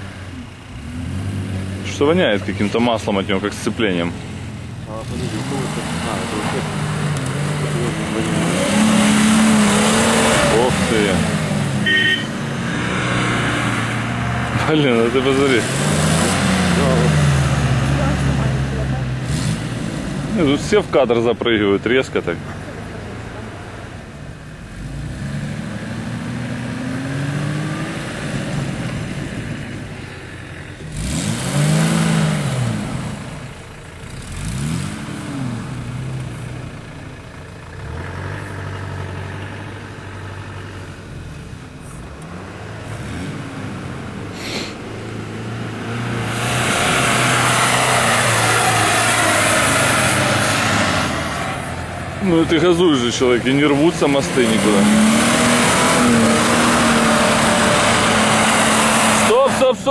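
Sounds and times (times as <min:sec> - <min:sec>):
suv engines revving: 0:00.0 - 0:59.9.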